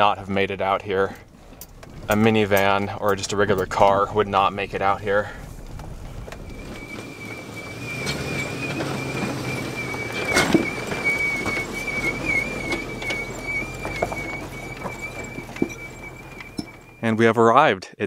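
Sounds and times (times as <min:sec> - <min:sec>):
engine and tyres running: 0:00.0 - 0:17.7
wheels squealing: 0:00.0 - 0:17.7
rocks knocking: 0:00.6 - 0:17.0.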